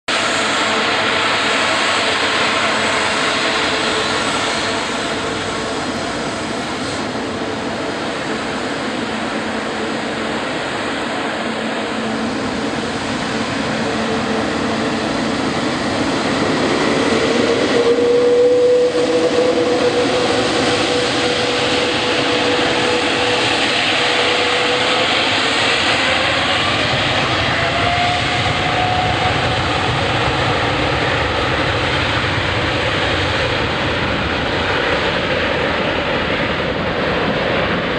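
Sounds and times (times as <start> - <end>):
jet engines rushing and whining: 0.0 - 37.9.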